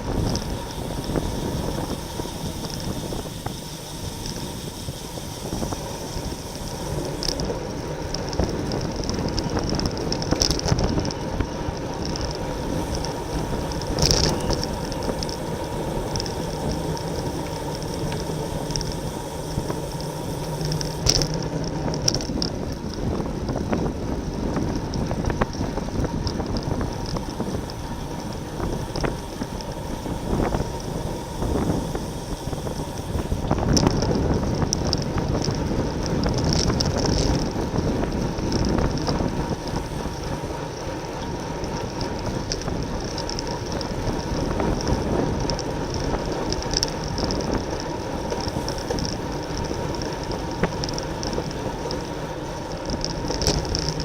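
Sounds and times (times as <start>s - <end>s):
bicycle tyre and drivetrain noise: 0.0s - 54.0s
wind buffeting microphone: 0.0s - 54.0s.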